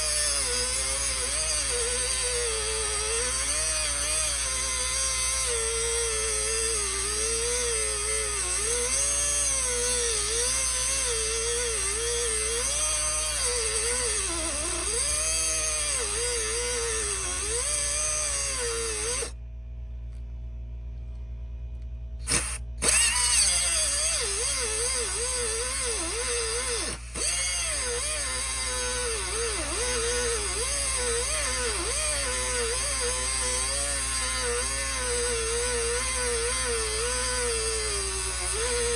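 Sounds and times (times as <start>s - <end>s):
angle grinder cutting metal: 0.0s - 19.3s, 22.2s - 38.9s.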